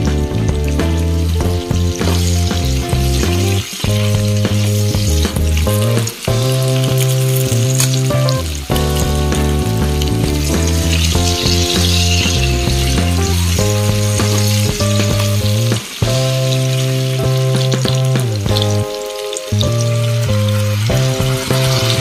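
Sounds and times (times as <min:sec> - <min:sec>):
background music of held notes: 0:00.0 - 0:22.0
food sizzling in a frying pan: 0:00.0 - 0:22.0.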